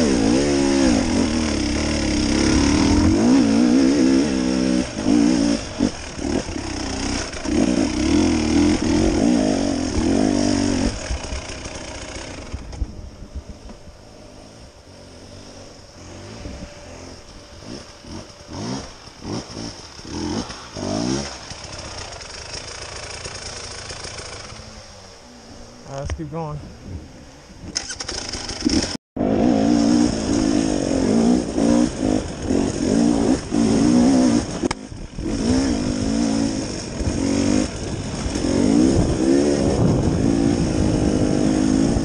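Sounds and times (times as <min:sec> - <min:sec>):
second dirt bike revving: 0:00.0 - 0:12.9, 0:14.1 - 0:26.5, 0:27.6 - 0:42.0
dirt bike engine revving: 0:00.0 - 0:13.0, 0:14.1 - 0:26.5, 0:27.6 - 0:42.0.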